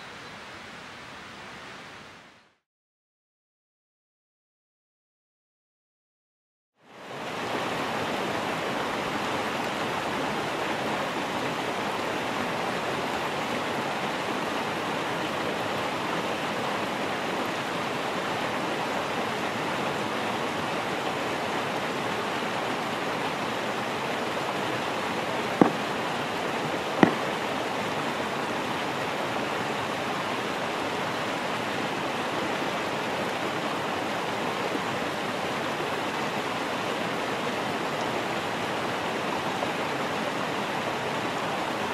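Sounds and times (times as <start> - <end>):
mountain stream rushing: 6.8 - 41.9.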